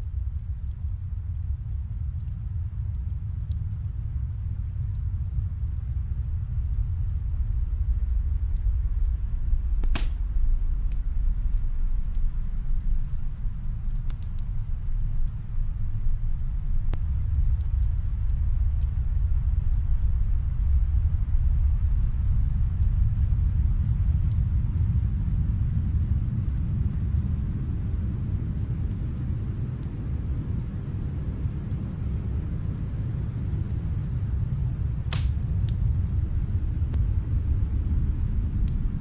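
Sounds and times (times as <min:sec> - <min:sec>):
snowstorm wind rumble: 0:00.0 - 0:39.0
wood fire crackling: 0:00.0 - 0:39.0.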